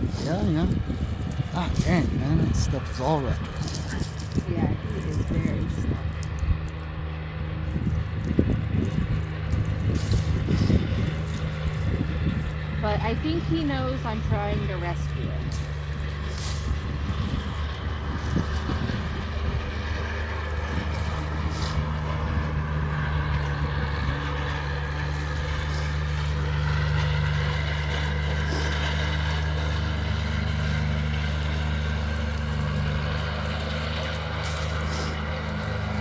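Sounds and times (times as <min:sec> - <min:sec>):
engine humming: 0:00.0 - 0:36.0.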